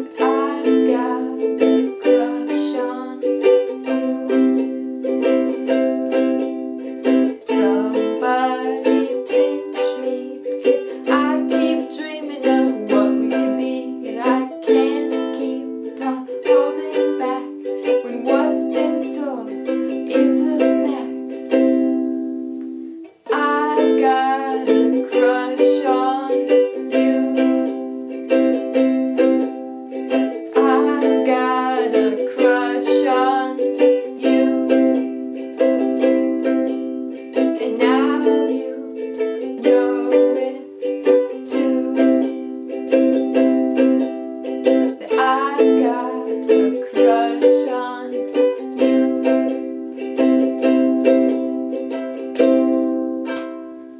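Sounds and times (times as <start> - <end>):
young woman singing: 0.0 - 22.1, 23.1 - 53.6
ukulele strumming chords: 0.0 - 53.9.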